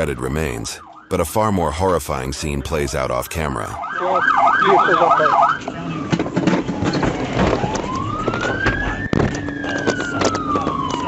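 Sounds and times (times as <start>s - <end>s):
police car siren: 0.0s - 11.0s.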